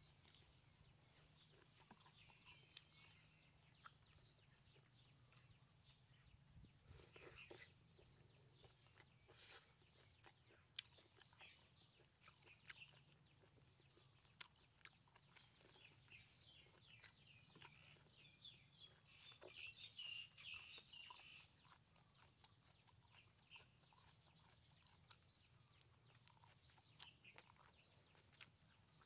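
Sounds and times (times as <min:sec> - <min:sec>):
wet mouth chewing: 0:00.0 - 0:29.0.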